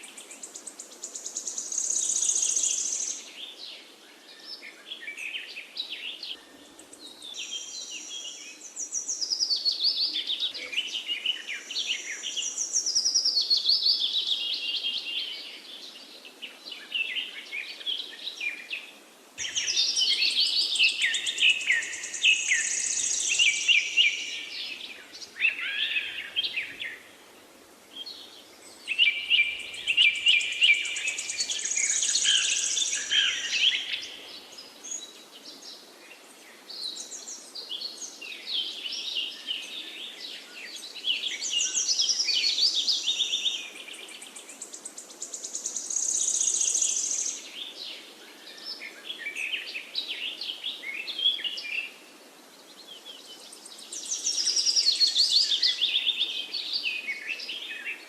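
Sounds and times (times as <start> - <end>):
faint outdoor hiss: 0.0 - 58.0
songbirds chirping and trilling: 0.0 - 58.0.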